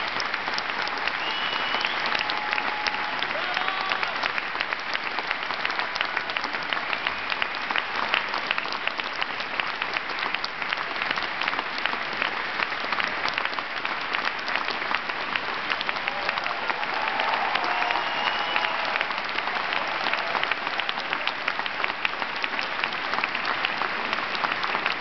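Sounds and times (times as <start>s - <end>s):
audience clapping: 0.0s - 25.0s.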